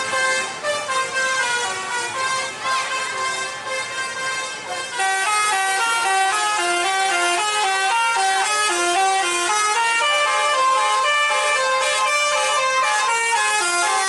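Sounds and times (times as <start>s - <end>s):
musical bus horn melody: 0.0s - 14.0s.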